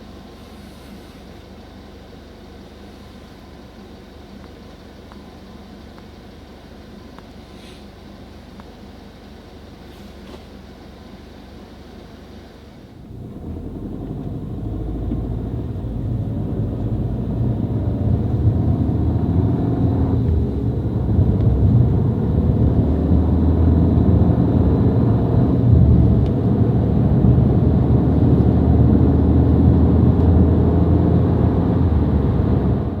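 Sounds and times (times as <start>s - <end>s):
car driving on road: 0.0s - 33.0s.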